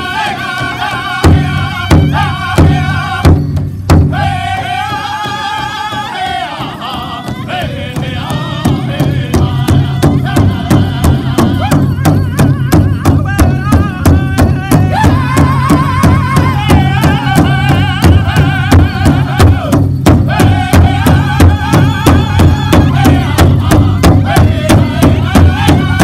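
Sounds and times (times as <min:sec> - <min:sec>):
large drum fast beat: 0:00.0 - 0:26.0
men singing in high voices: 0:00.0 - 0:26.0.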